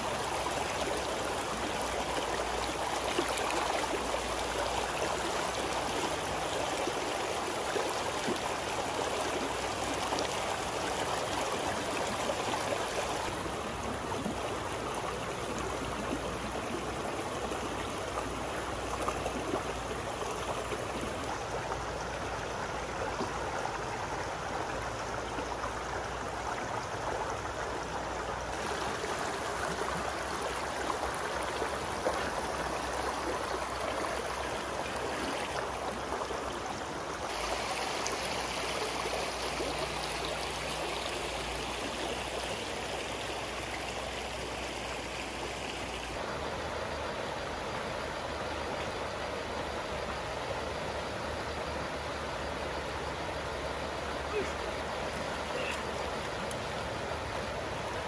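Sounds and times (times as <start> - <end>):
stream water rushing over rocks: 0.0 - 58.0.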